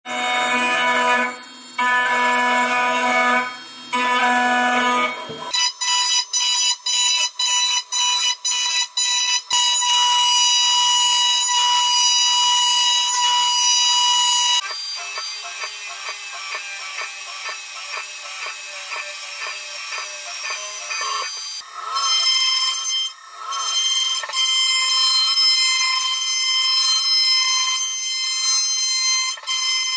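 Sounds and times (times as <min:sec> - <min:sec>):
milling machine cutting metal whine: 0:00.1 - 0:29.9.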